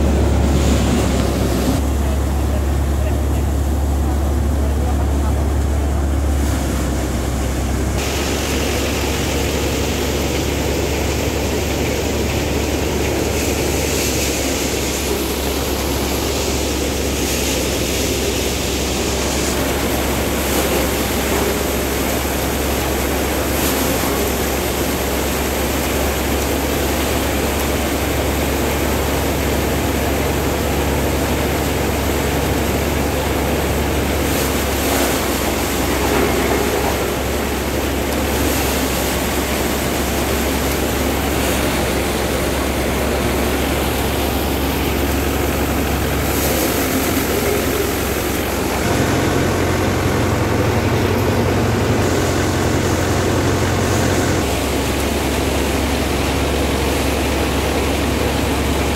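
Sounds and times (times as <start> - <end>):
thresher drum and fans droning: 0.0 - 58.9
tractor diesel engine hum: 0.0 - 58.9.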